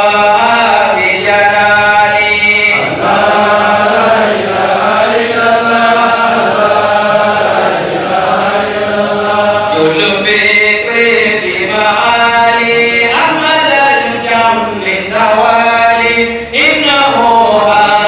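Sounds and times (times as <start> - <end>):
man singing devotional chant: 0.0 - 18.0.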